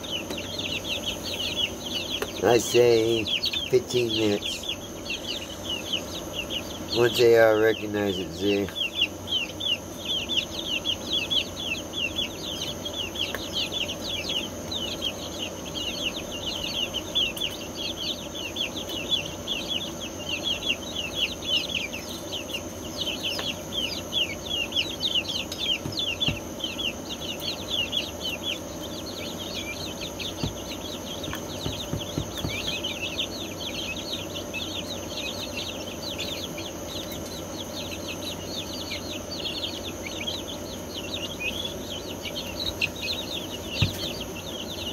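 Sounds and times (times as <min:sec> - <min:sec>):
chicks peeping: 0:00.0 - 0:44.9
faint steady hum: 0:00.0 - 0:44.9.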